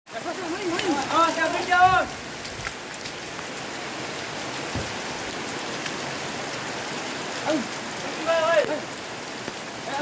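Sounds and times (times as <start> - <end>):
heavy rain falling: 0.1 - 10.0.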